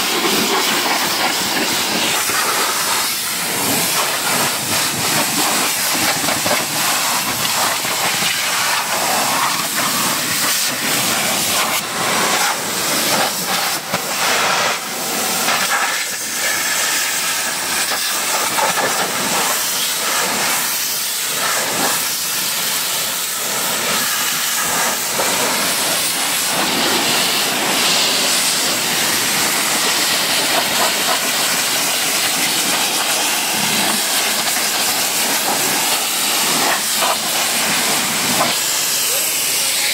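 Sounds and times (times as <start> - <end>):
pressure washer spray hissing: 0.0 - 39.9.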